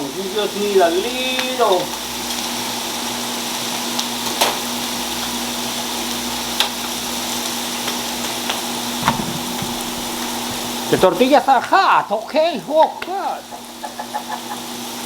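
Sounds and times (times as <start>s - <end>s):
scallions sizzling in a pan: 0.0s - 15.0s.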